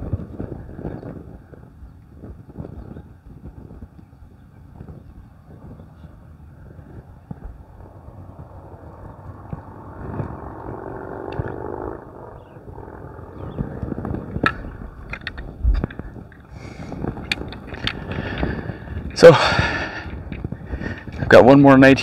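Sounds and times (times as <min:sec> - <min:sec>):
low humming drone: 0:00.0 - 0:21.2
wind rumbling on microphone: 0:00.0 - 0:22.0.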